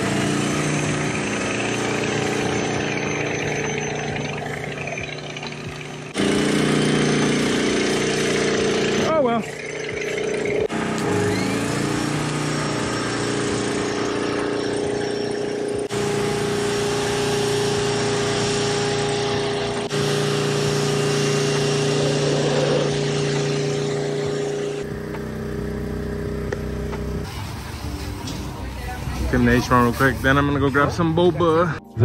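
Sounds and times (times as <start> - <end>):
pressure washer motor humming: 0.0 - 30.7.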